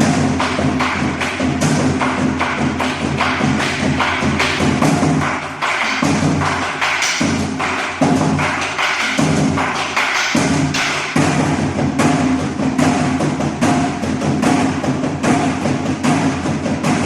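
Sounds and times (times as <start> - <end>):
fast steady drumming: 0.0 - 17.0.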